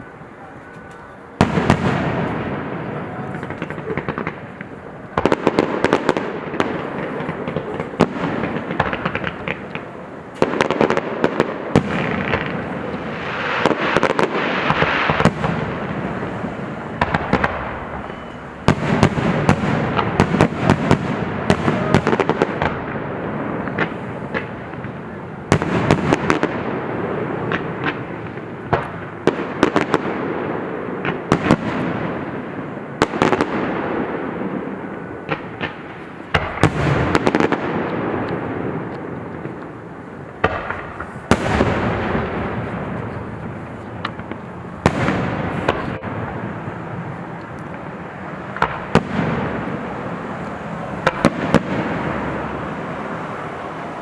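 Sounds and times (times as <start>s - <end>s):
firework bangs and crackles: 0.0s - 54.0s
echoing rumble: 1.2s - 29.5s, 30.1s - 54.0s.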